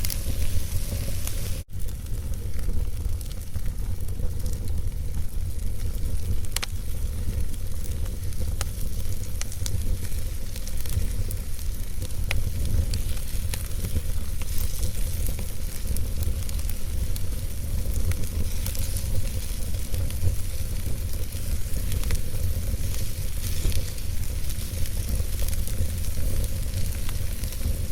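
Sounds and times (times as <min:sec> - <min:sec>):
crackles and pops from logs: 0:00.0 - 0:27.9
fire rumbling and hissing: 0:00.0 - 0:27.9.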